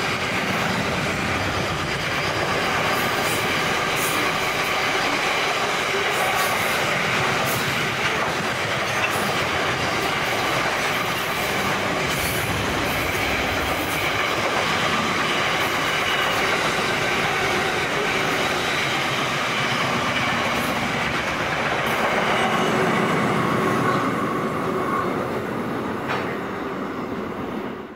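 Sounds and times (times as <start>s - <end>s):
freight train wheels on rails: 0.0s - 27.9s.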